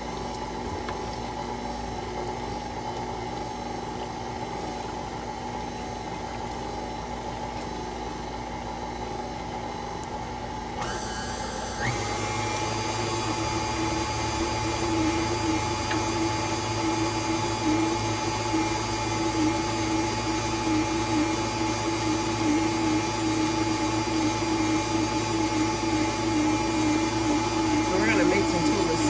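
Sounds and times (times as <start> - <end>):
electric mixer whining: 0.0 - 29.0.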